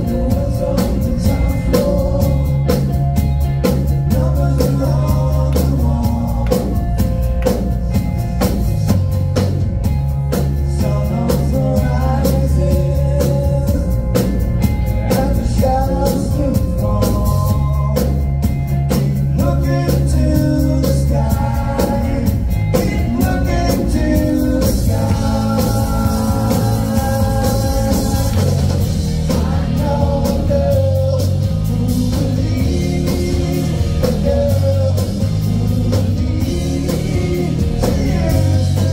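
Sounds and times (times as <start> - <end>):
person singing: 0.0 - 3.0, 3.6 - 9.0, 10.4 - 14.2, 19.2 - 38.9
live rock band playing: 0.0 - 38.9.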